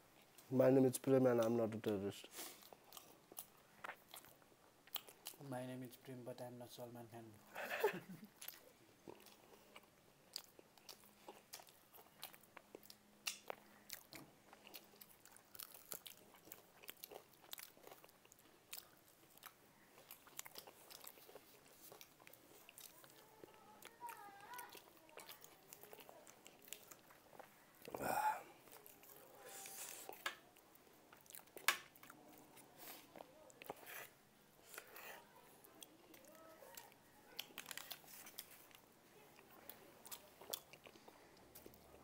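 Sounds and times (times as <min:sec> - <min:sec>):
chewing and crunching fried food: 0:00.1 - 0:06.0, 0:08.3 - 0:42.0.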